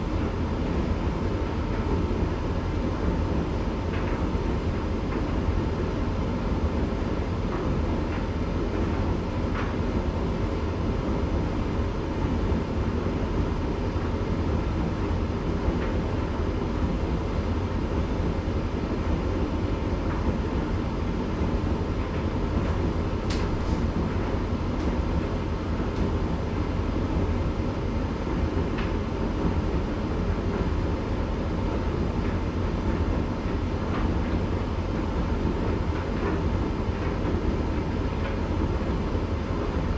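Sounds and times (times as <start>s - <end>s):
tumble dryer drum rumbling: 0.0s - 39.9s.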